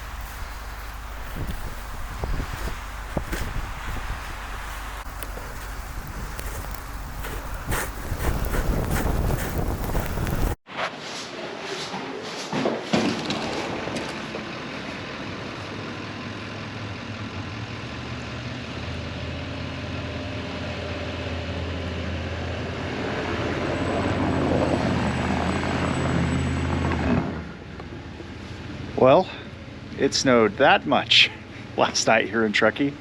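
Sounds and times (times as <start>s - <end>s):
vehicle engine droning: 0.0s - 10.6s, 13.1s - 33.0s.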